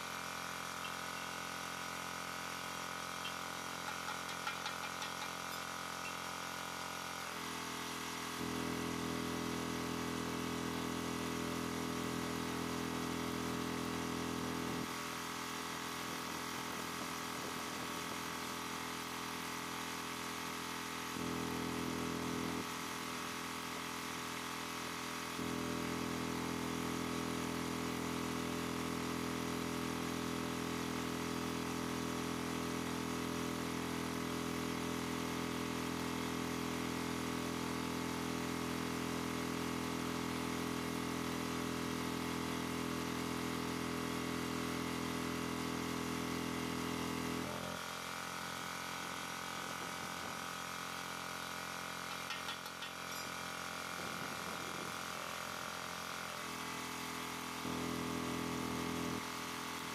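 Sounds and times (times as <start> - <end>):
machine hum with hiss: 0.0 - 59.9.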